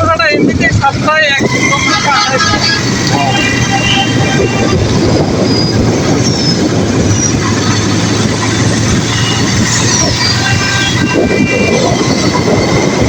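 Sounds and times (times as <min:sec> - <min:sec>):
vehicle running noise: 0:00.0 - 0:13.0.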